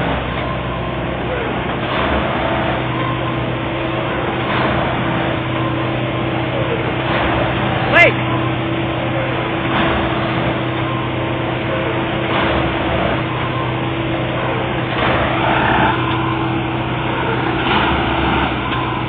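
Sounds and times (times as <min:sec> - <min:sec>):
engine hum: 0:00.0 - 0:19.0
track tamping machine noise: 0:00.0 - 0:19.0.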